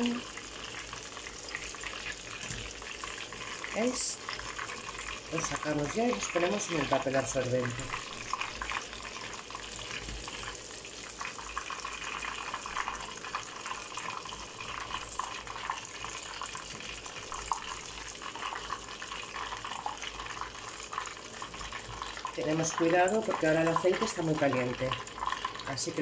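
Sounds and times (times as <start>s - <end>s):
hot oil sizzling: 0.0s - 26.0s.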